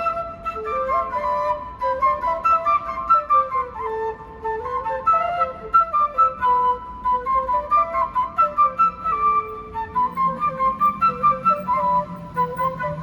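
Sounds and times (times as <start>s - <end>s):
flute playing quick melody: 0.0s - 13.0s.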